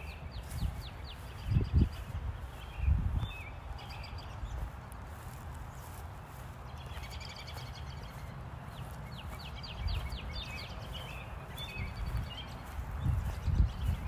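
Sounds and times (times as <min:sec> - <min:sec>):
low rumble of wind: 0:00.0 - 0:14.0
small birds singing: 0:00.0 - 0:14.0.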